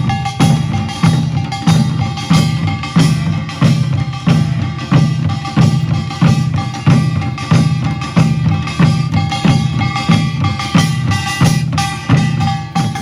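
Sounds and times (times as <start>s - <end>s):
drums beating: 0.0s - 13.0s
gongs ringing and clanging: 0.0s - 13.0s.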